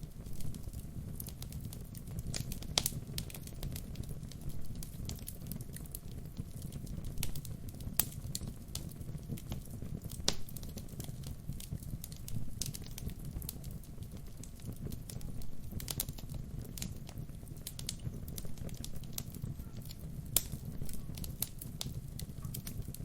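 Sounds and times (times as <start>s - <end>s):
burning wood crackling and popping: 0.0s - 23.0s
fire flames rumbling: 0.0s - 23.0s.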